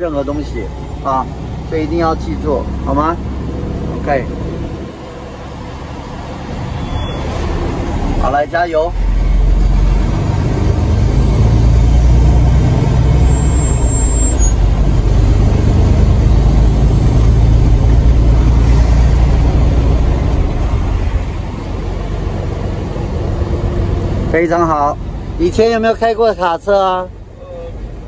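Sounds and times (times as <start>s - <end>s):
diesel truck engine drone: 0.0s - 28.0s.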